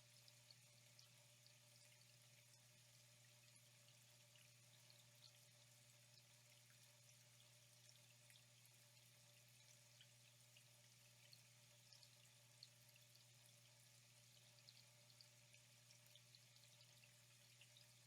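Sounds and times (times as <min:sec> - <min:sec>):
faint flowing water: 0:00.0 - 0:18.0.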